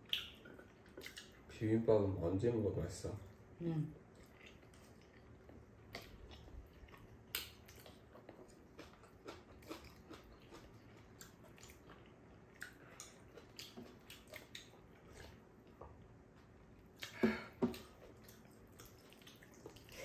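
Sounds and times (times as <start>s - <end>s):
people chewing: 0.0s - 1.5s, 4.0s - 20.0s.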